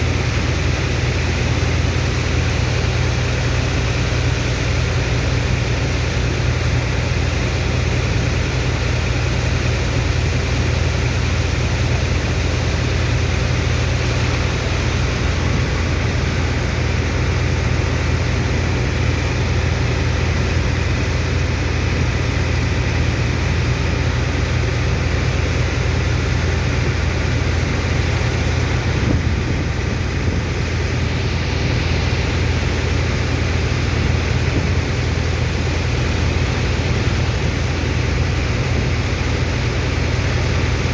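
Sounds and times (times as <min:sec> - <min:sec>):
water pump engine droning: 0:00.0 - 0:40.9.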